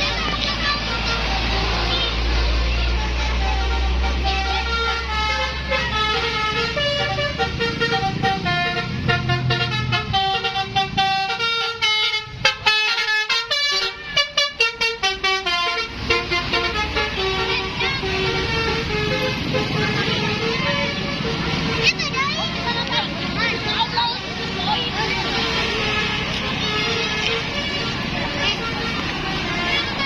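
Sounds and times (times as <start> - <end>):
bus multi-tone horn tune: 0.0 - 30.0
low bus engine: 0.0 - 30.0.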